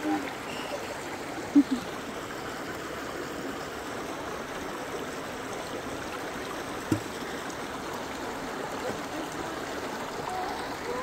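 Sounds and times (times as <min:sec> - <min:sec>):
creek water babbling over stones: 0:00.0 - 0:11.0.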